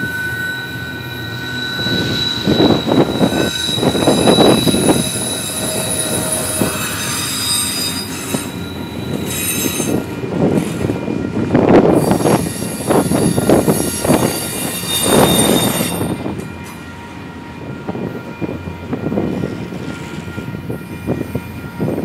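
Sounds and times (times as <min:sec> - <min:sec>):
train wheels squealing on rails: 0:00.0 - 0:22.0.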